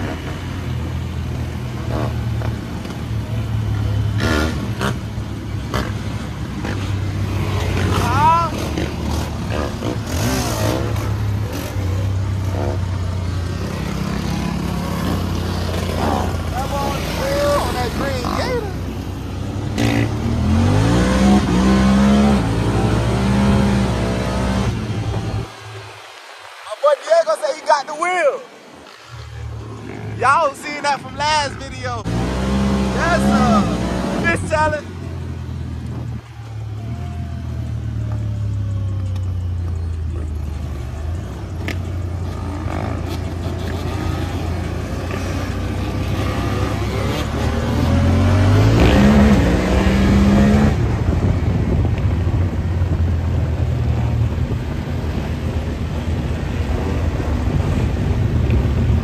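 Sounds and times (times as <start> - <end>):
motorcycle engine revving: 0.0 - 26.6, 28.8 - 30.5, 31.4 - 59.0.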